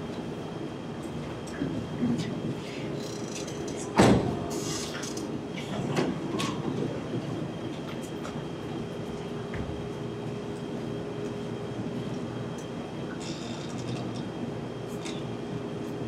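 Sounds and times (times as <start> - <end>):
faint constant hum: 0.0 - 16.0.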